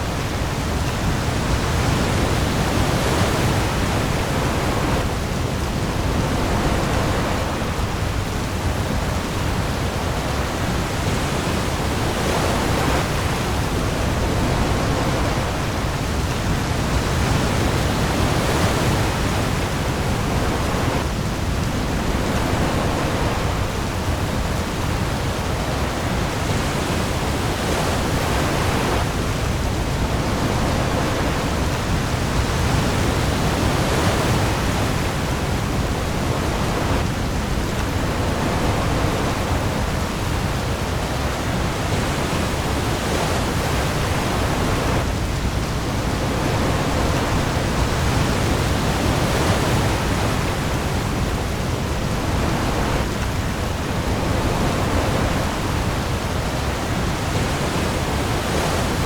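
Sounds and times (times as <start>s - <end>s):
heavy rain on the sea: 0.0s - 59.0s
waves rumbling: 0.0s - 59.0s.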